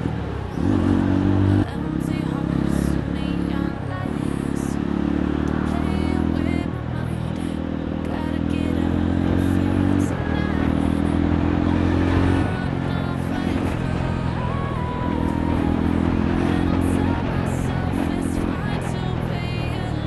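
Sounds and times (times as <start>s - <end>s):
motorcycle engine in tunnel: 0.0s - 20.0s.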